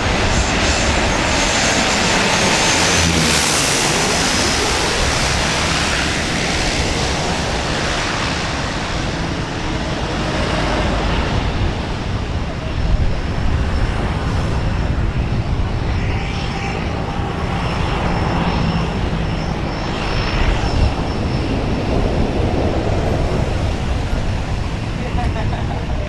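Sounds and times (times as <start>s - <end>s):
turboprop plane taxiing: 0.0s - 26.0s
twin turboprop aircraft passing: 0.0s - 26.0s.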